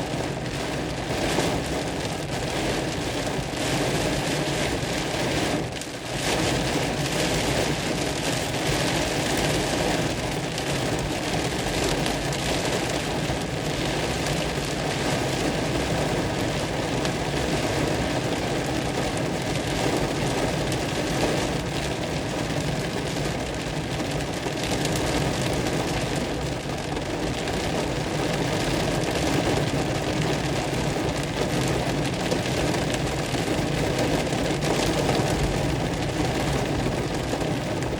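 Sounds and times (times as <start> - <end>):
hard rain falling: 0.0 - 37.9.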